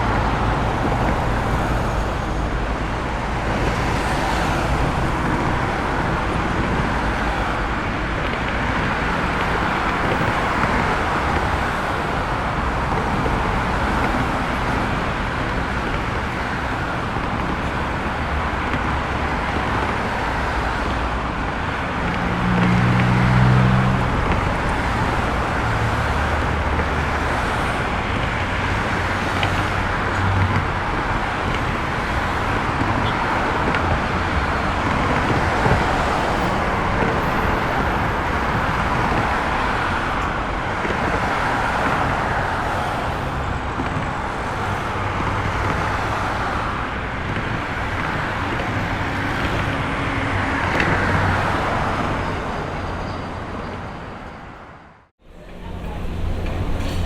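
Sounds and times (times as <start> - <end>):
car engines: 0.0 - 57.0
tyre noise on road: 0.0 - 57.0.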